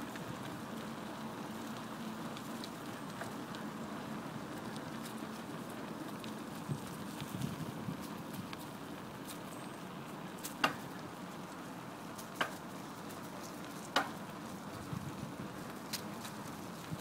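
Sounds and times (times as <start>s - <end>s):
bicycle tyres rolling on path: 0.0s - 17.0s.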